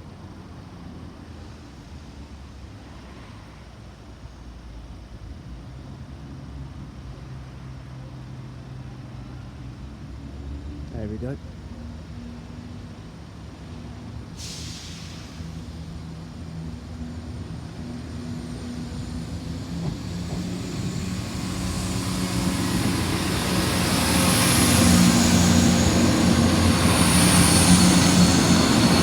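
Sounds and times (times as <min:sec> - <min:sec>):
diesel train approaching: 0:00.0 - 0:29.0.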